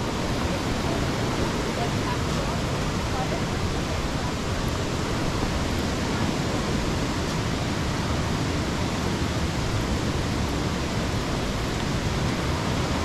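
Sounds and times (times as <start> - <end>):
whitewater rushing over rocks: 0.0 - 13.0.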